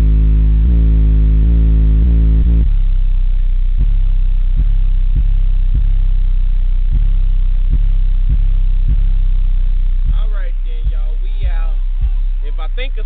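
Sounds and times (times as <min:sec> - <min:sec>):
bass-heavy rap beat: 0:00.0 - 0:13.0.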